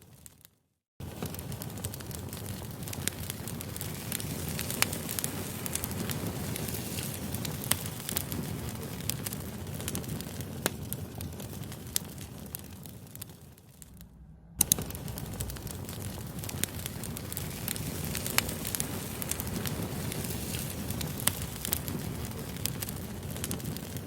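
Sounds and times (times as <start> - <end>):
campfire crackling: 1.0 - 24.0.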